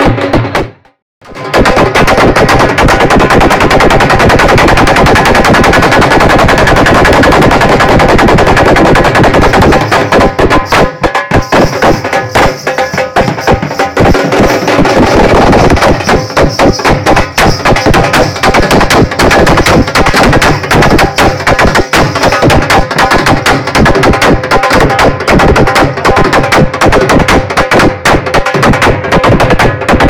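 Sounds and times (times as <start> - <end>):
dhol drum beating fast: 0.0 - 30.0.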